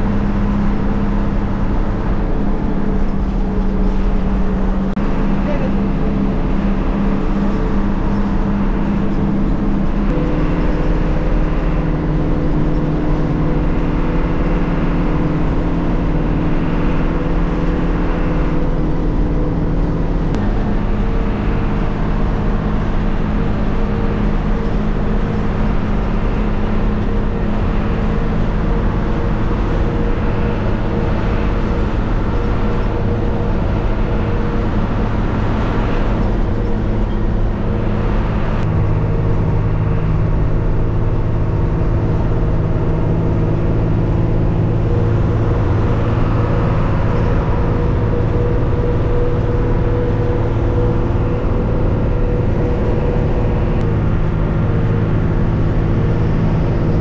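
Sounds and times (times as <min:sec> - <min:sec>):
bus engine running: 0:00.0 - 0:57.0
road rumble: 0:00.0 - 0:57.0.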